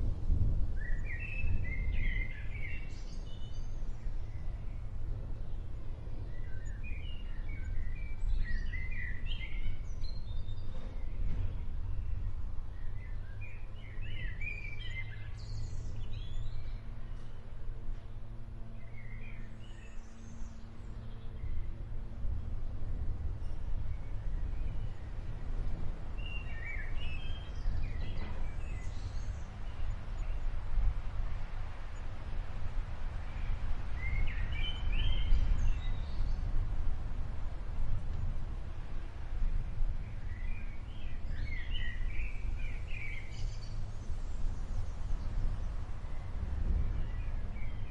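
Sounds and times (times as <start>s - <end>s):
low outdoor rumble: 0.0s - 47.9s.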